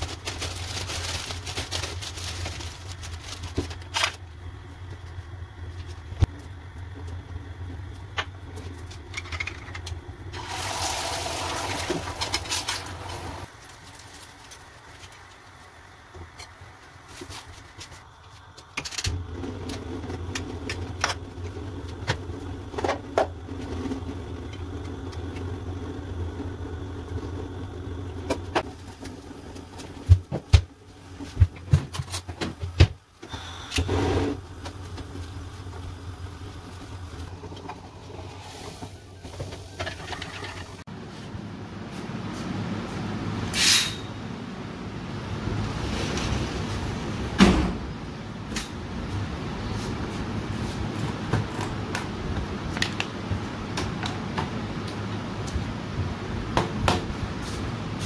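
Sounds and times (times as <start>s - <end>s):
gas stove hum: 2.7s - 58.0s.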